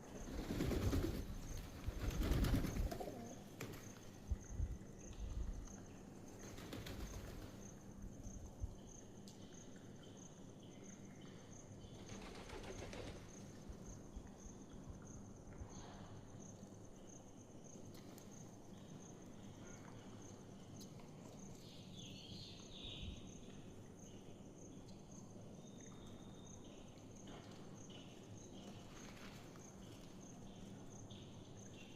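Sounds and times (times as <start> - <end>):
high insect chirp: 0.0 - 31.9.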